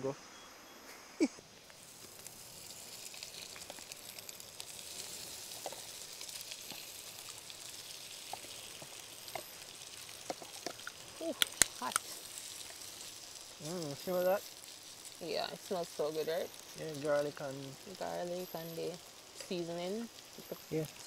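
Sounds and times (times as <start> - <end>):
crayfish frying with crackles: 1.0 - 21.0.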